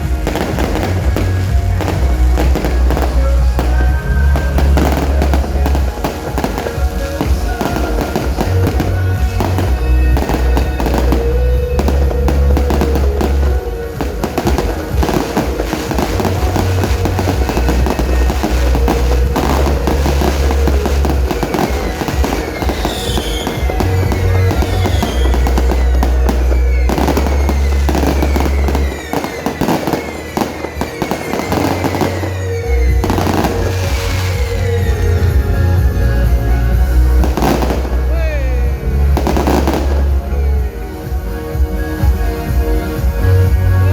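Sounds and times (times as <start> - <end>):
fireworks banging and crackling: 0.0 - 43.9
loud music with heavy bass: 0.0 - 43.9.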